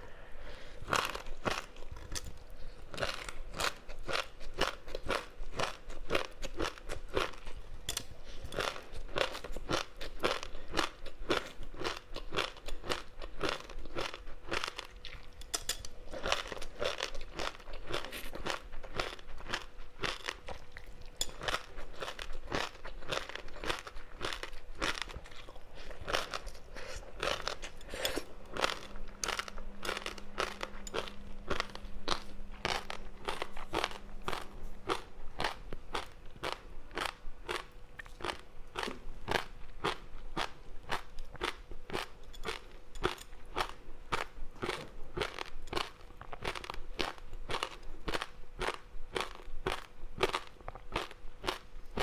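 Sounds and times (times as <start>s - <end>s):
crunching and chewing food: 0.5s - 52.0s.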